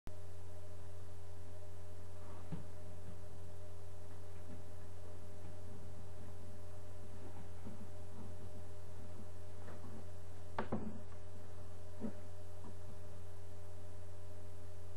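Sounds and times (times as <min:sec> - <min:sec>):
faint steady tones: 0:00.1 - 0:14.9
low electrical hum: 0:00.1 - 0:14.9.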